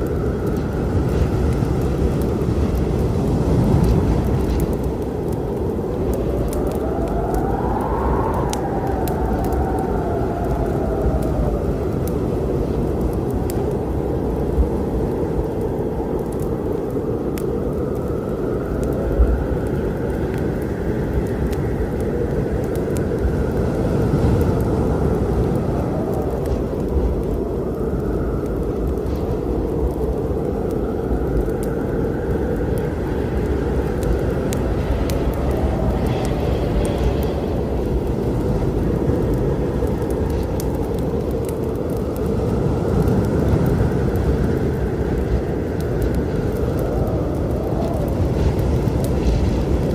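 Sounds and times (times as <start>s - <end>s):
storm rumble: 0.0s - 49.9s
wind: 0.0s - 49.9s
wood fire crackling: 0.0s - 49.9s.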